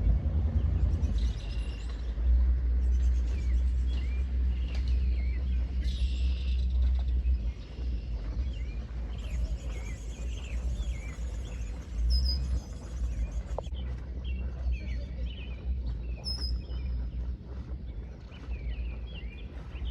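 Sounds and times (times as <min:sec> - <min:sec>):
steady low rumble: 0:00.0 - 0:19.9
small birds chirping: 0:01.0 - 0:19.9.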